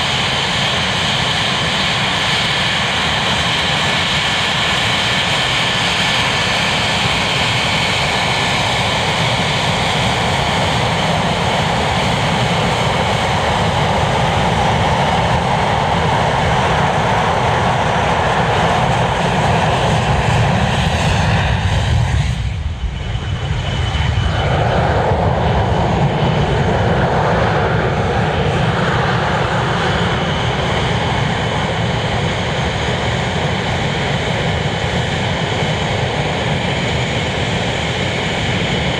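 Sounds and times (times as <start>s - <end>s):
jet engines with high whine: 0.0s - 38.9s.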